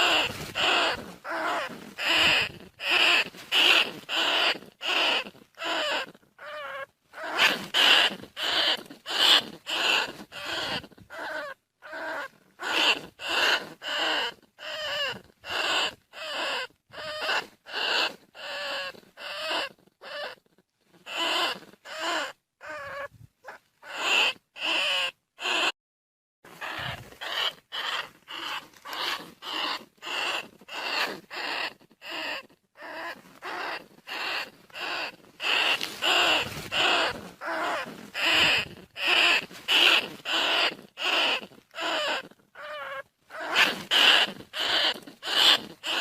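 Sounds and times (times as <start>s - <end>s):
rat squealing: 0.0s - 25.8s, 26.5s - 46.0s.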